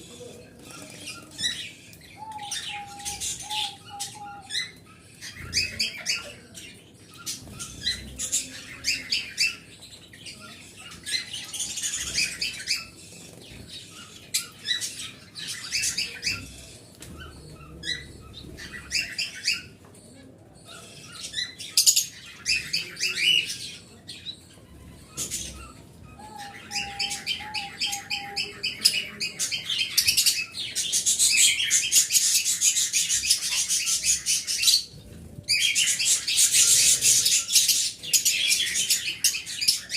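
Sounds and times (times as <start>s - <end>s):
cage birds chirping: 0.0s - 39.9s.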